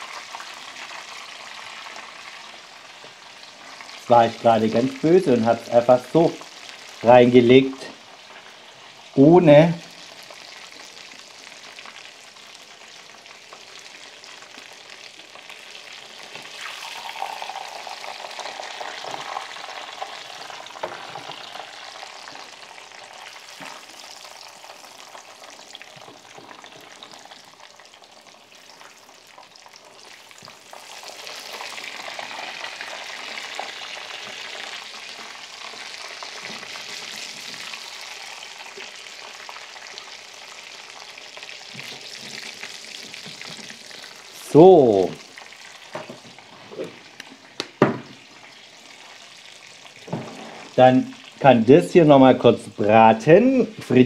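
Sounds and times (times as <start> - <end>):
chicken nuggets sizzling in oil: 0.0 - 54.0.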